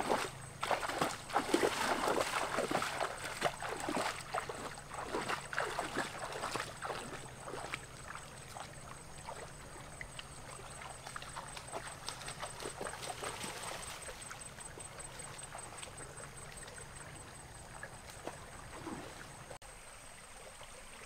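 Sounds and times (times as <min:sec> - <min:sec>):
footsteps splashing in stream: 0:00.0 - 0:19.5.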